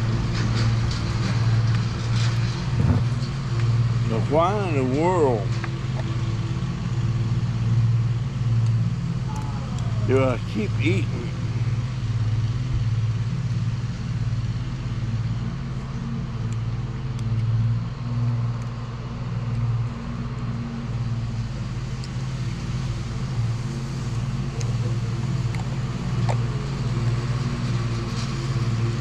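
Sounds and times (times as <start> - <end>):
engine humming steadily: 0.0 - 29.0.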